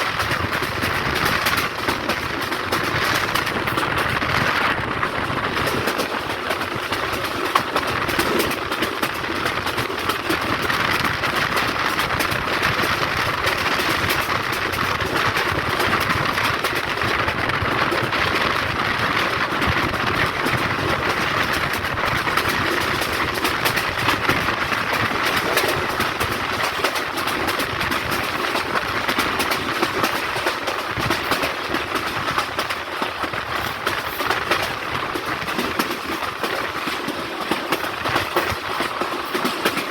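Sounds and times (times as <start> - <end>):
train clicks and clatter: 0.0 - 39.9
train wheels rolling on rails: 0.0 - 39.9.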